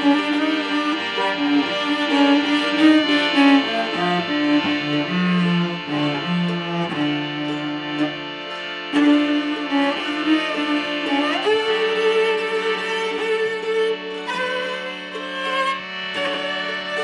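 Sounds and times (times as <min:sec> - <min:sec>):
bowed cello and violin: 0:00.0 - 0:17.0
plucked guitar: 0:00.0 - 0:17.0.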